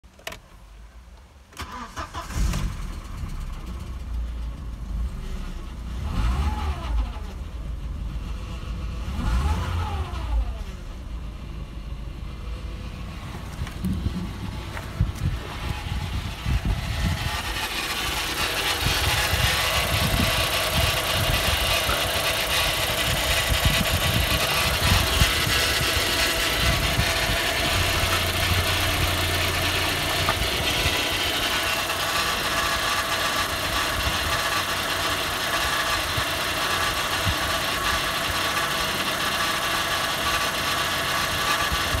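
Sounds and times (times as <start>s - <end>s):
car engine idling: 0.5s - 42.0s.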